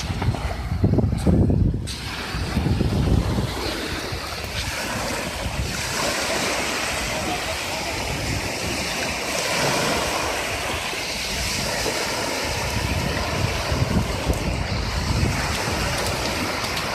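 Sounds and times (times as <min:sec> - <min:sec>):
sea surf washing on shore: 0:00.0 - 0:16.9
wind buffeting microphone: 0:00.0 - 0:16.9.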